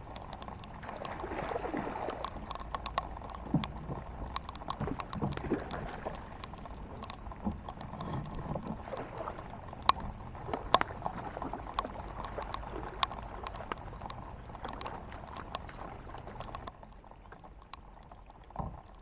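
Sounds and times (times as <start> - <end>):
faint water noise: 0.0 - 19.0
low knocks of boat: 0.0 - 19.0
raindrops ticking on a kayak: 0.0 - 19.0.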